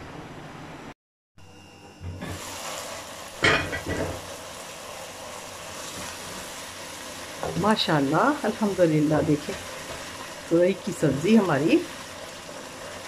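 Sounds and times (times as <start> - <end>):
curry sizzling in a pot: 2.0 - 13.0.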